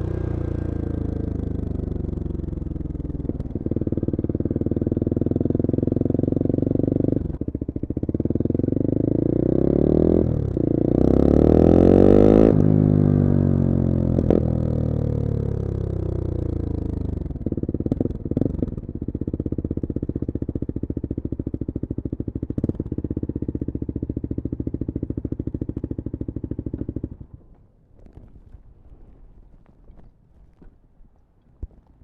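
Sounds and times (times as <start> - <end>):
motorcycle engine slowing to idle: 0.0 - 30.7.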